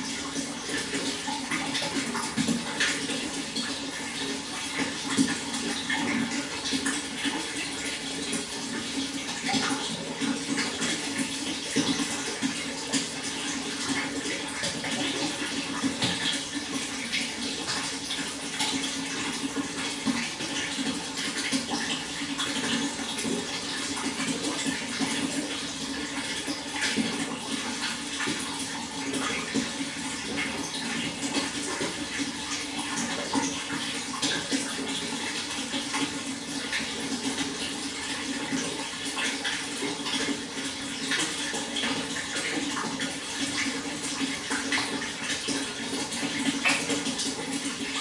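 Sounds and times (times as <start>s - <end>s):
water flowing: 0.0s - 48.0s.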